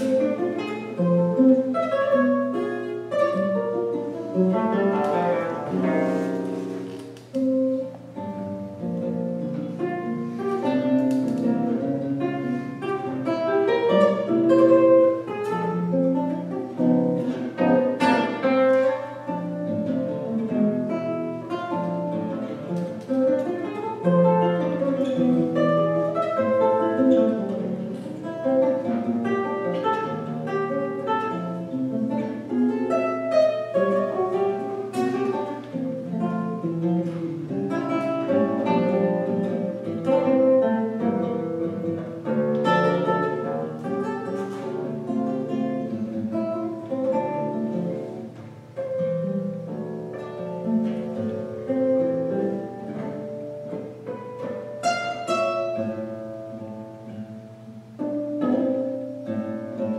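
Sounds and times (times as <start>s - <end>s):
fingerstyle classical guitar: 0.0s - 59.9s.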